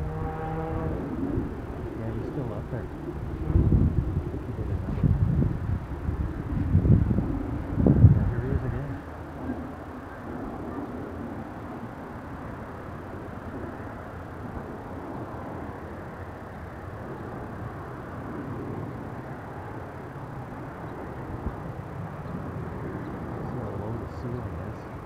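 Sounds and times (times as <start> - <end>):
distant jet roar: 0.0 - 25.0.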